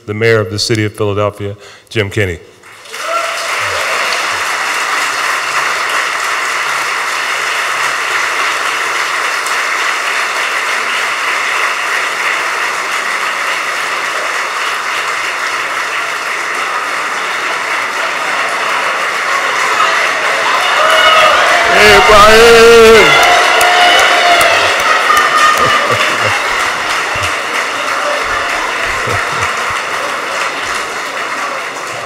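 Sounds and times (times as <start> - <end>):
large crowd applauding: 2.6 - 32.0.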